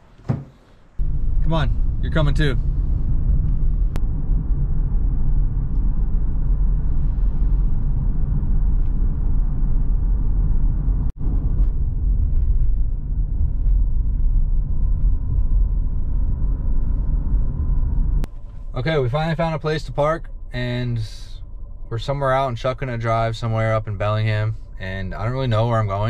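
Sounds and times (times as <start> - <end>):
car engine rumble: 0.0 - 26.0.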